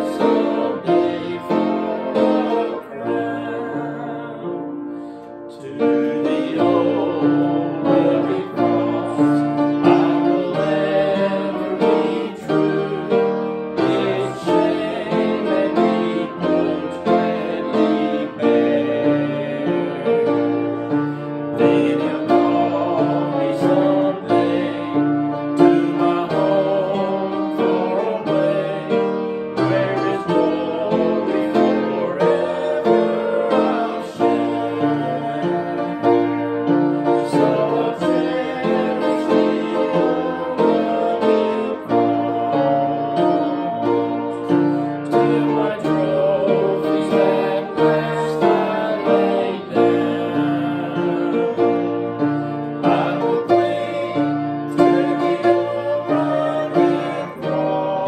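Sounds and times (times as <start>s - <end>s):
man singing a hymn: 0.0s - 58.0s
piano accompaniment: 0.0s - 58.0s.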